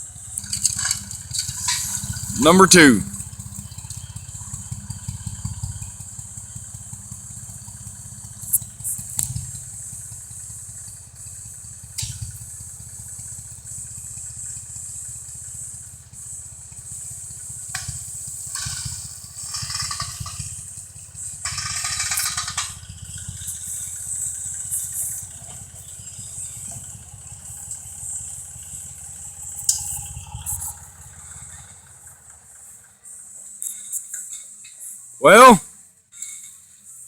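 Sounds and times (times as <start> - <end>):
tractor engine running: 0.0 - 33.2.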